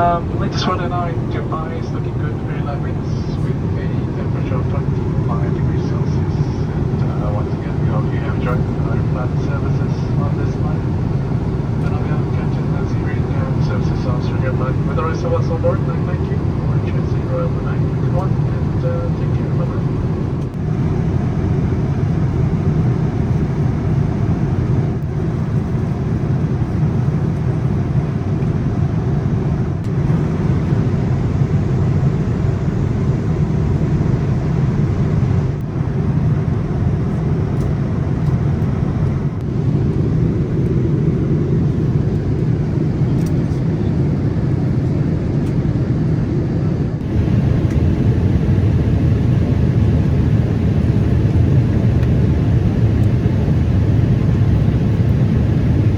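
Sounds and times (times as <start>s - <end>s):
airliner cabin noise: 0.0s - 55.9s.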